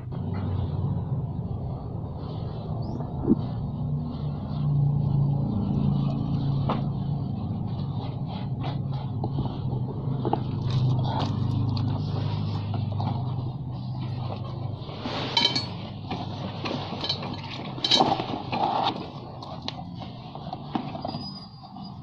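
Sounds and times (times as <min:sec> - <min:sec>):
low steady hum: 0:00.0 - 0:20.7.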